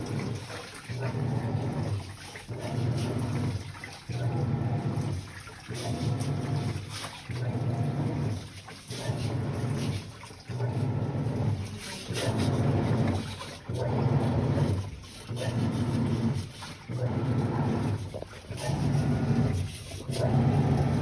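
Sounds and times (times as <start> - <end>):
washing machine motor humming: 0.0 - 21.0
water churning: 0.0 - 21.0.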